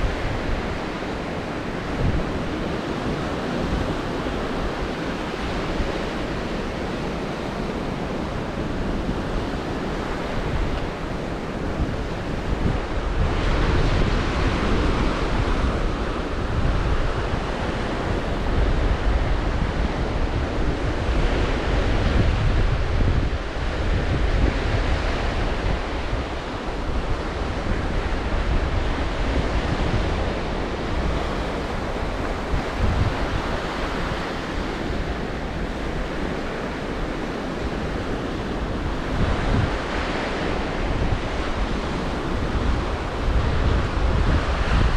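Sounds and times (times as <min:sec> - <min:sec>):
waves breaking on shore: 0:00.0 - 0:44.9
wind buffeting microphone: 0:00.0 - 0:44.9.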